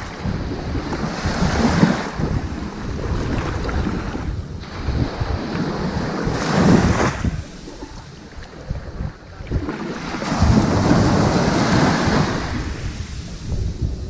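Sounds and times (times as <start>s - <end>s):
ocean waves on sandy beach: 0.0s - 14.0s
wind rumble on microphone: 0.0s - 14.0s.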